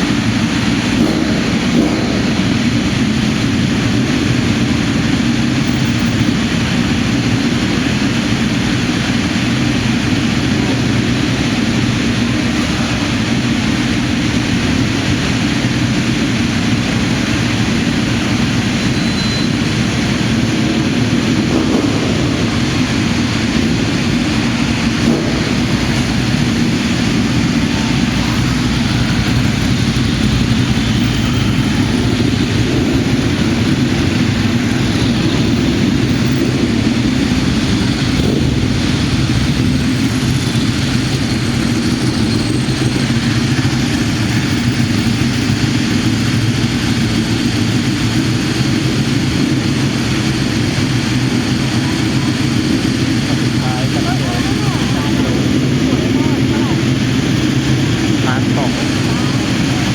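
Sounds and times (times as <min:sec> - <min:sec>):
engine droning steadily: 0:00.0 - 0:59.9.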